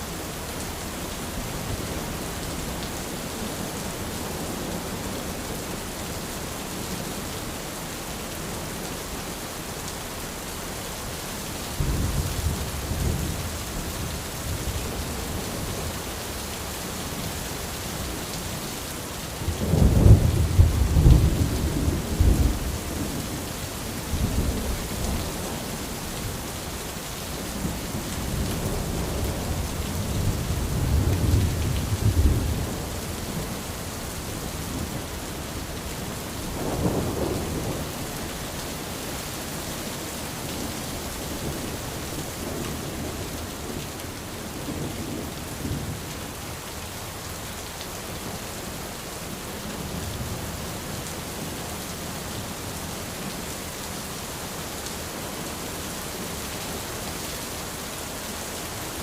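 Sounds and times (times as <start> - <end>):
rain on an umbrella: 0.0 - 59.0.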